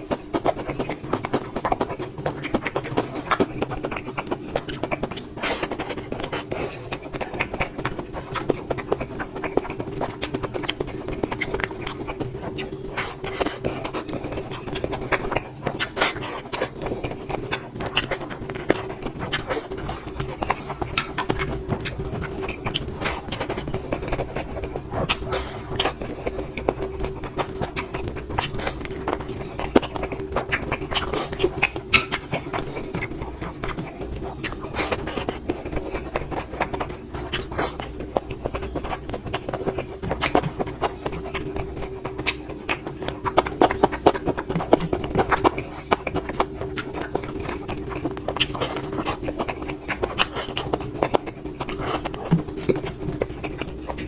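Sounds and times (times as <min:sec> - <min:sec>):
person chewing and lip-smacking: 0:00.0 - 0:54.0
steady hum: 0:00.0 - 0:54.0.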